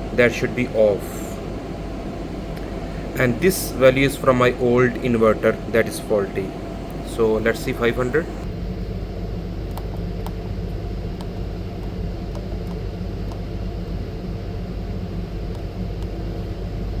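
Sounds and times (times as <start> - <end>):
machinery and cooling fans humming: 0.0 - 17.0.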